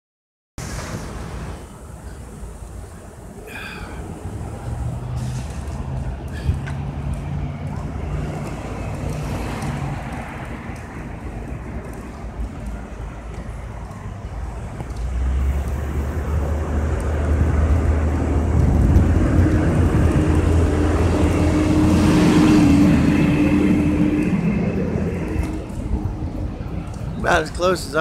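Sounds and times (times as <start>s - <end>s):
engine rumbling: 0.6s - 28.0s.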